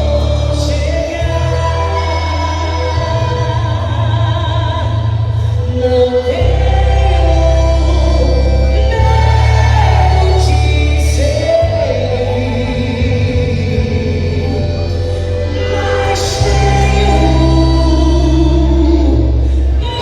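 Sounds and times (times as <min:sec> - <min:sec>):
loud music with bass and vocals: 0:00.0 - 0:20.0.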